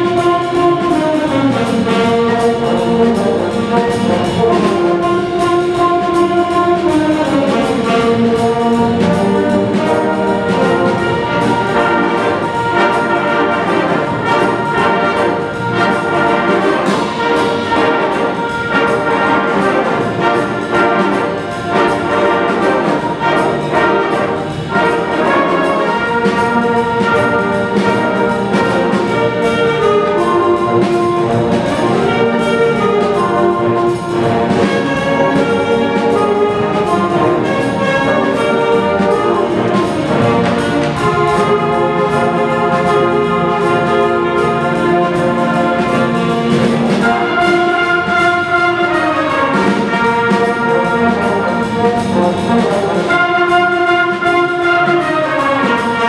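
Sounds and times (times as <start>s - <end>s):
concert band playing swing: 0.0s - 56.0s
trumpets and trombones: 0.0s - 56.0s.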